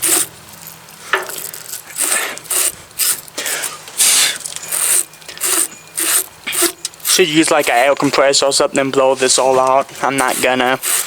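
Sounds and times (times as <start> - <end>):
wire brush rasping strokes: 0.0 - 8.1, 9.2 - 11.0.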